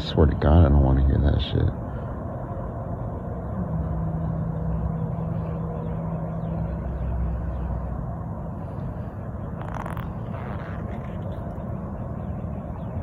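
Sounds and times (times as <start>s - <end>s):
vehicle engine running: 0.9s - 13.0s
low tone: 1.7s - 13.0s.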